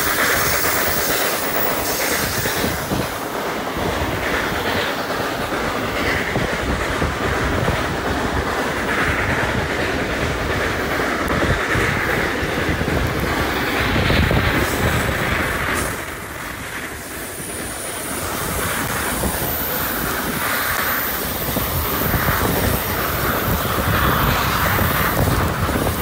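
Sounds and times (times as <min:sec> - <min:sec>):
train wheels rattling over rails: 0:00.0 - 0:26.0.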